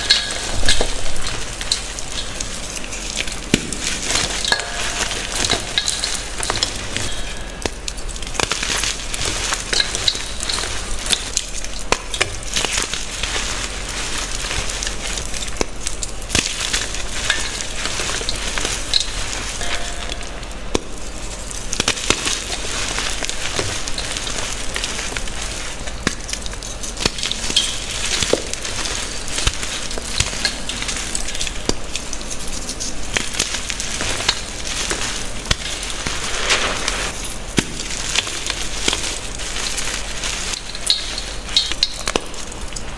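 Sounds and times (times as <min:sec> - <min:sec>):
hands crushing chalk crunching: 0:00.0 - 0:42.8.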